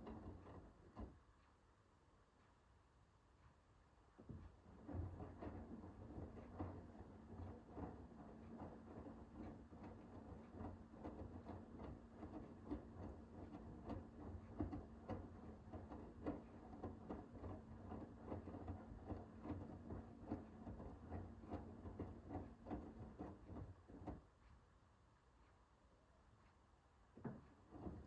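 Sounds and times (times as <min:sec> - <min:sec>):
washing machine motor hum: 0:00.0 - 0:01.7, 0:04.0 - 0:24.6, 0:26.9 - 0:28.0.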